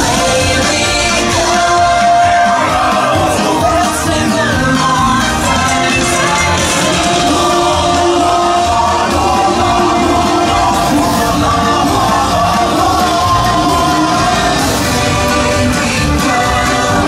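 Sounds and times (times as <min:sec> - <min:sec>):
loud music with singing voices: 0:00.0 - 0:17.0.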